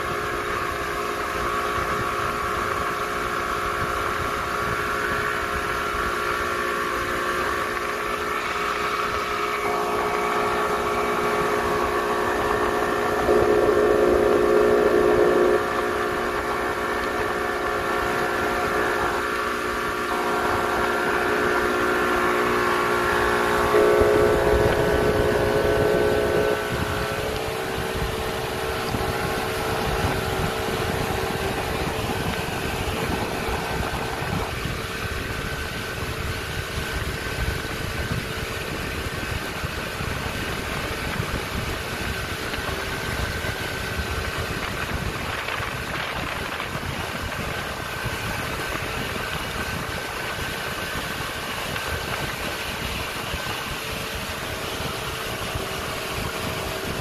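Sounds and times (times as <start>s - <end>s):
boat engine humming: 0.0s - 57.0s
water rushing: 0.0s - 57.0s.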